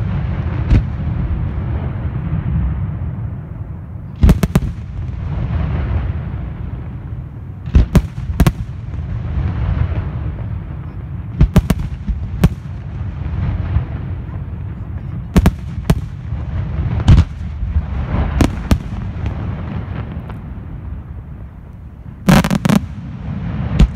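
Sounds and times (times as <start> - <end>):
fireworks bursting with sharp bangs: 0.0 - 23.9.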